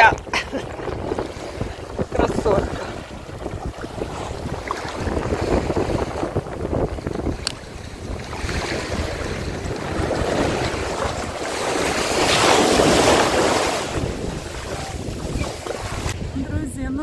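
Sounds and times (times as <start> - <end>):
waves washing up sandy shore: 0.0 - 16.4
wind rumbling on microphone: 0.0 - 17.0.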